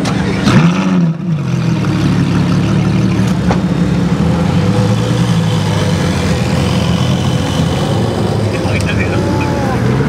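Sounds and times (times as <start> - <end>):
car engine idling: 1.2 - 10.0.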